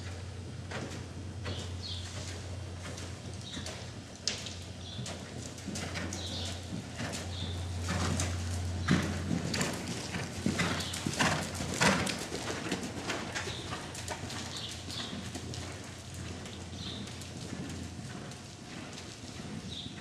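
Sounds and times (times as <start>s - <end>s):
hoofbeats on sand: 0.8s - 20.0s.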